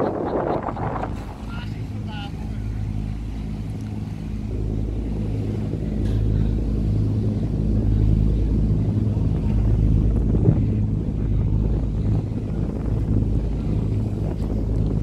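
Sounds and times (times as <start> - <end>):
boat engine droning hum: 0.0 - 15.0
water noise: 0.0 - 15.0
wind: 0.0 - 15.0.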